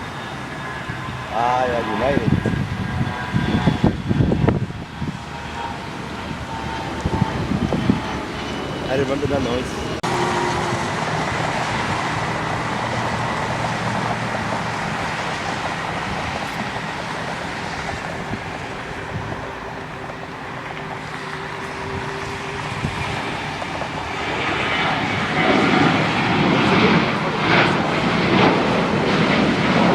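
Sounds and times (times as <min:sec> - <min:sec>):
jet engine roar with whine: 0:00.0 - 0:29.9.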